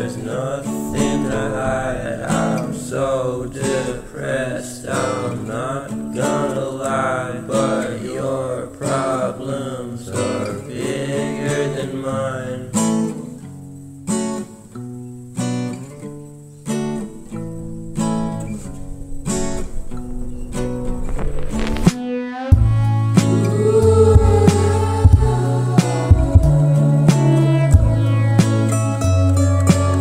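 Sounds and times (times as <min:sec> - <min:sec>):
strummed acoustic guitar chords: 0:00.0 - 0:30.0.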